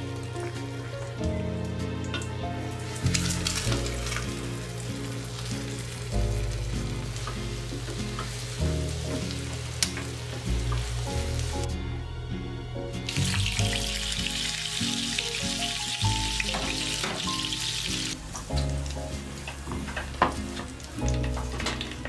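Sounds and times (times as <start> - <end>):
background music with bass line: 0.0 - 22.0
eggs sizzling in a frying pan: 1.8 - 11.7, 13.1 - 22.0.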